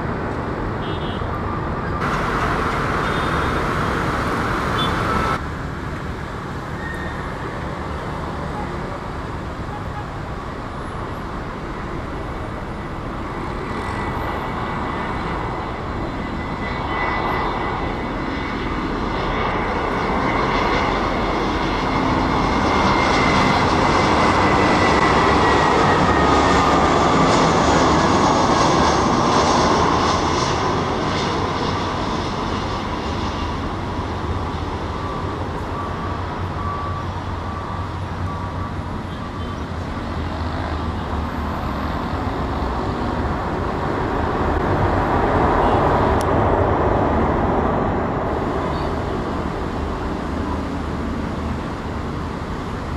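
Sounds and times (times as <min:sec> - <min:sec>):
jet engine whine: 0:00.0 - 0:52.9
rush of engine noise: 0:01.4 - 0:52.9.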